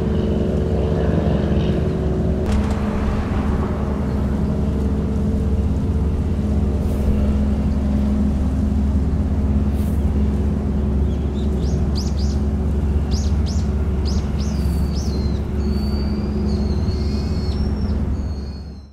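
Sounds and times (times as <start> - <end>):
diesel engine drone: 0.0 - 18.9.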